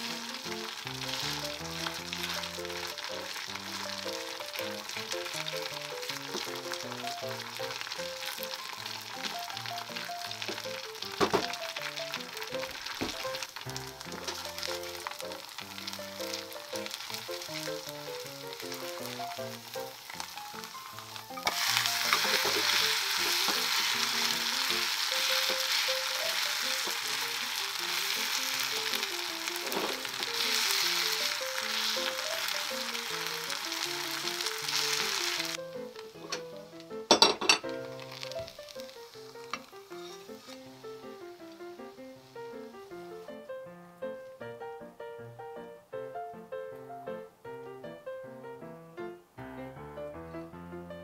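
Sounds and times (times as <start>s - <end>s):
potato frying in a pan: 0.0s - 43.4s.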